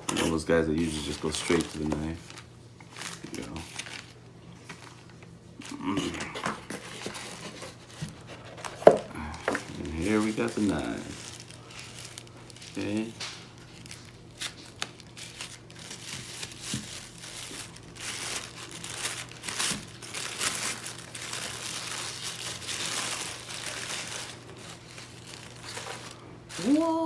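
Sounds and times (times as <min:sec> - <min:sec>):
packaging crinkling and tearing: 0:00.1 - 0:27.0.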